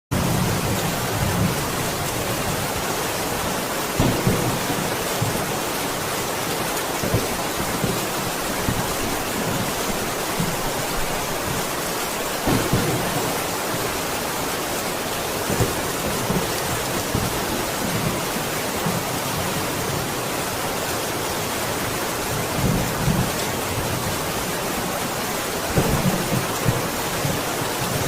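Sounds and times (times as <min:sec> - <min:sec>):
heavy rain falling: 0:00.1 - 0:28.0.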